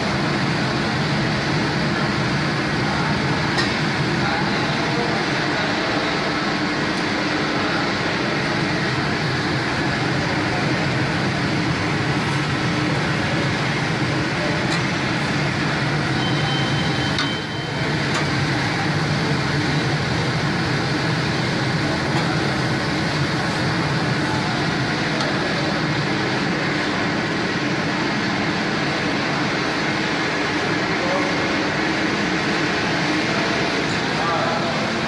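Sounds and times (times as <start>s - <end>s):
machinery hum and rush: 0.0s - 35.0s.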